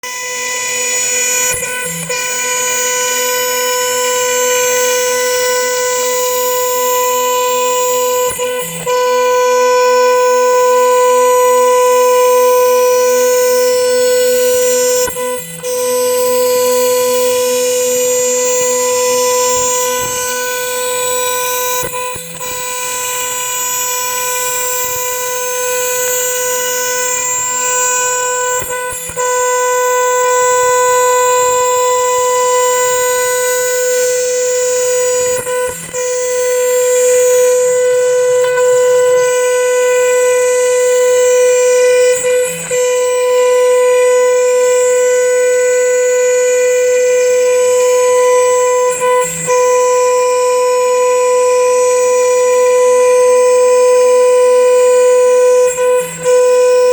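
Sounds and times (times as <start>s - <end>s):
router spindle high whine: 0.0s - 56.9s.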